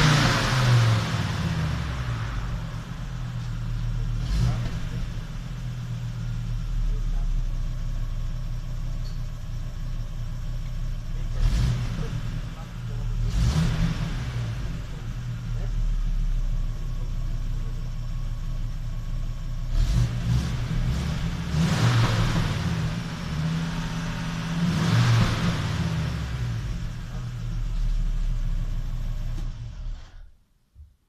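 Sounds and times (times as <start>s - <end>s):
car engine idling and revving: 0.0s - 30.5s.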